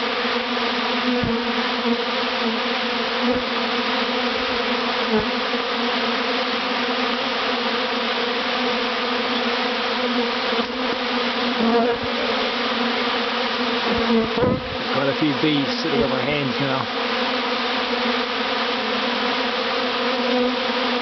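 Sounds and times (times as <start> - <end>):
honeybee swarm buzzing: 0.0 - 21.0.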